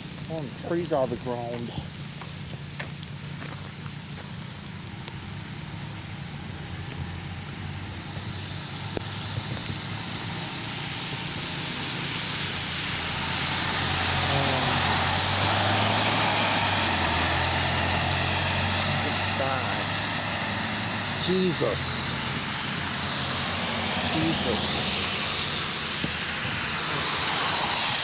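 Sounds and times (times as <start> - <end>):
passing vehicle engine hum: 0.0 - 28.0
tyre and road noise: 0.0 - 28.0.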